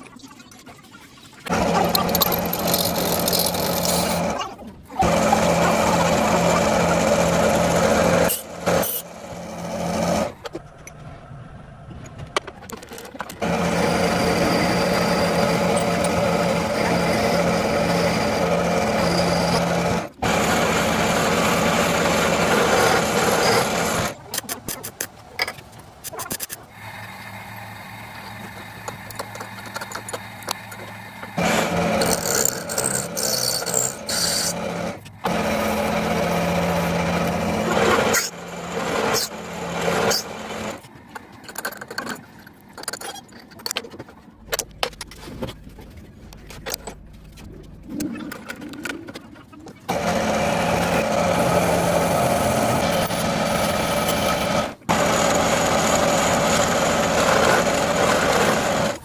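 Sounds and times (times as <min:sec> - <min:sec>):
metalworking machines on steel: 0:01.4 - 0:59.0.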